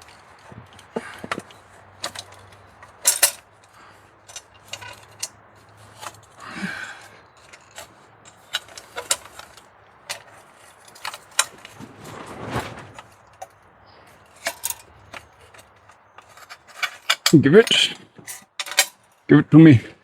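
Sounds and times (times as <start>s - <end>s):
metal scrape: 0.0s - 19.1s
metal tools clinking: 0.0s - 19.3s.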